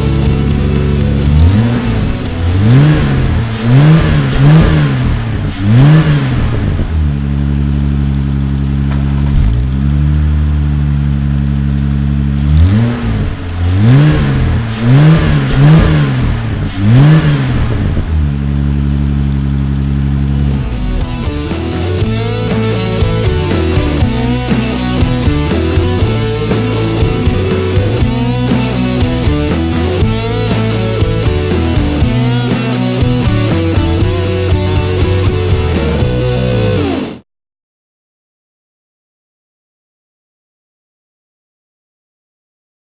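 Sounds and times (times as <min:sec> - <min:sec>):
car engine idling and revving: 0:00.0 - 0:37.2.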